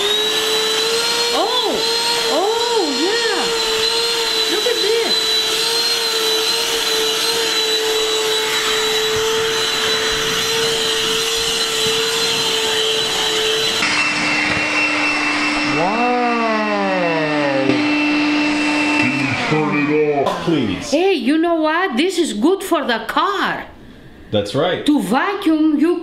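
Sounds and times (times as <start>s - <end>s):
handheld vacuum whining: 0.0s - 21.1s.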